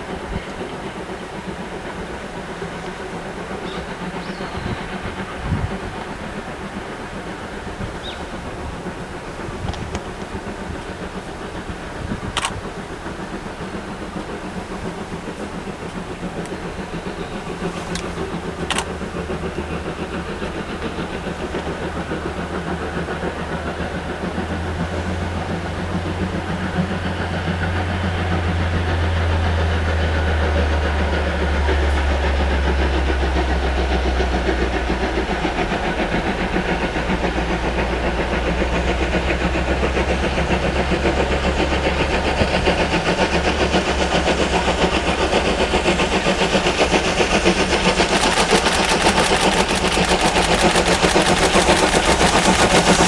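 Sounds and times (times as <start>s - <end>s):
steam locomotive chuffing: 0.0s - 53.0s.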